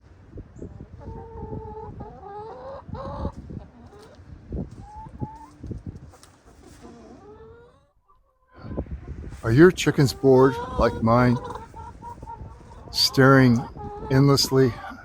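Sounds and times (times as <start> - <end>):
hens clucking and calling: 0.6 - 15.0.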